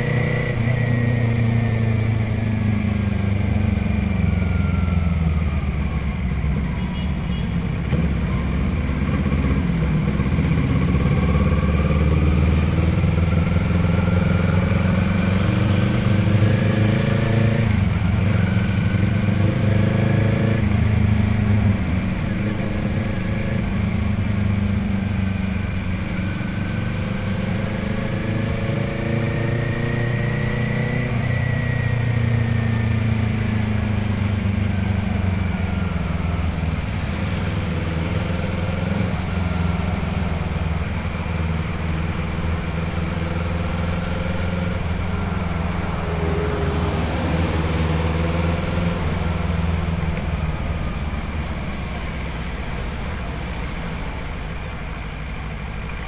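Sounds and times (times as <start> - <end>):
motorcycle engine and exhaust: 0.0 - 56.0.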